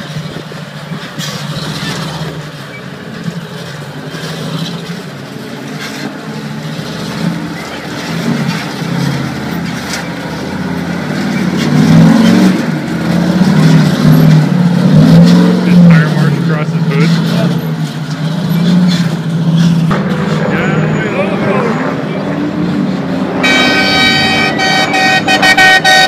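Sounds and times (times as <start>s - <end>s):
off-road buggy engine revving: 0.0s - 26.0s.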